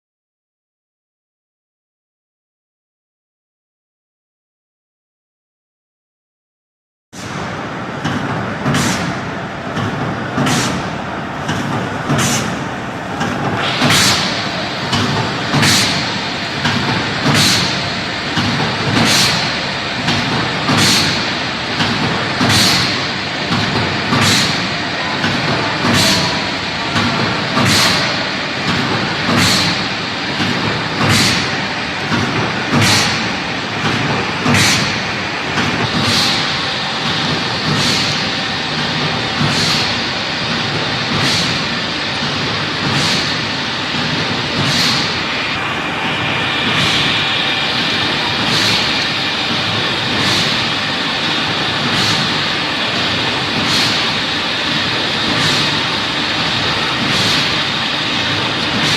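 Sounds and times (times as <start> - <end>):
production line machine noise: 7.2 - 58.9.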